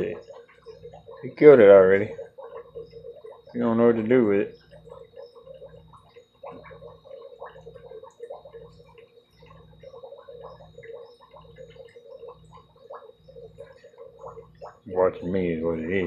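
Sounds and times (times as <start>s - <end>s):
water bubbling and gurgling: 0.0s - 16.0s.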